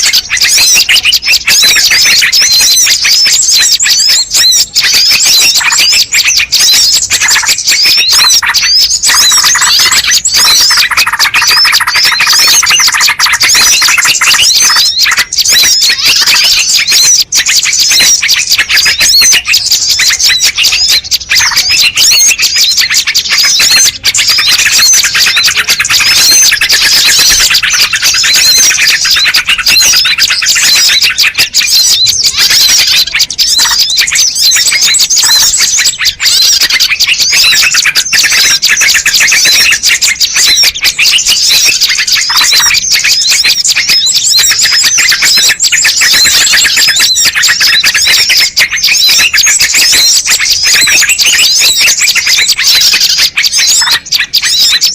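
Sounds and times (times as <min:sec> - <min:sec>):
chorus of birds chirping and trilling: 0:00.0 - 0:54.9.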